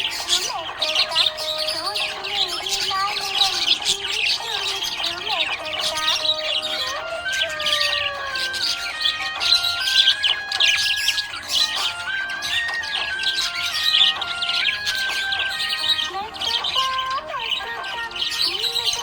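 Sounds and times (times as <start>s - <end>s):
budgerigars chirping and chattering: 0.0s - 19.0s.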